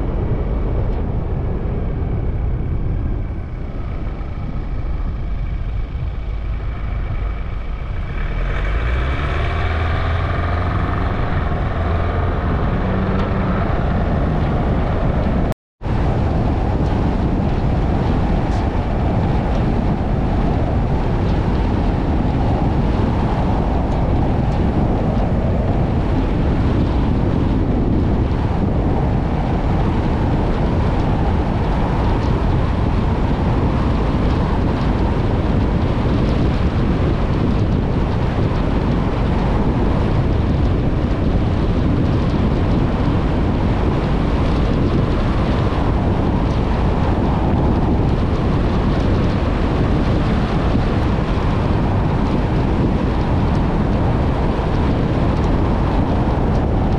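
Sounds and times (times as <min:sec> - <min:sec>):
vehicle engine running: 0:00.0 - 0:56.9
wind noise: 0:00.0 - 0:56.9.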